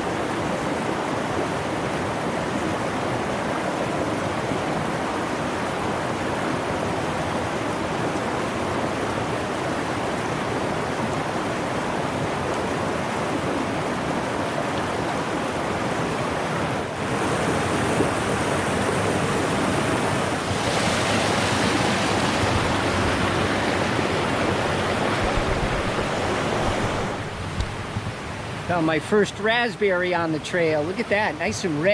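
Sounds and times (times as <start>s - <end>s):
stream rushing over rocks: 0.0s - 31.9s.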